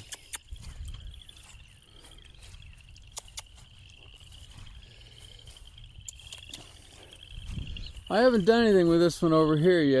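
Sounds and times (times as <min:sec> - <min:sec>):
insect chorus trilling: 0:00.0 - 0:10.0.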